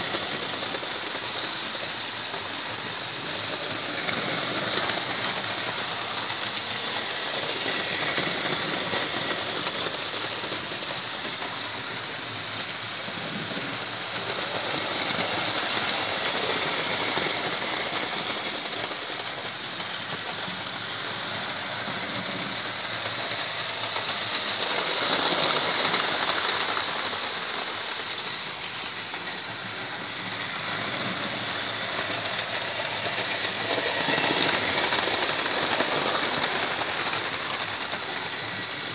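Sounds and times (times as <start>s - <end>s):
model train wheels rattling on track: 0.0s - 38.9s.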